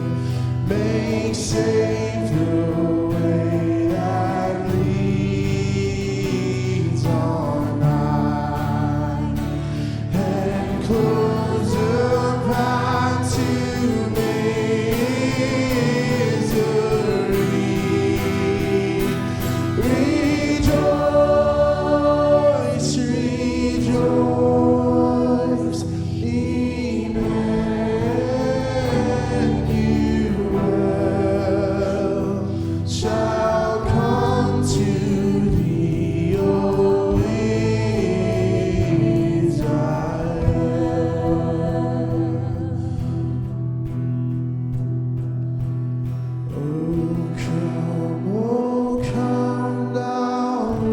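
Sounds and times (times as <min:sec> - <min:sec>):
congregation singing a hymn: 0:00.0 - 0:44.1, 0:46.5 - 0:50.9.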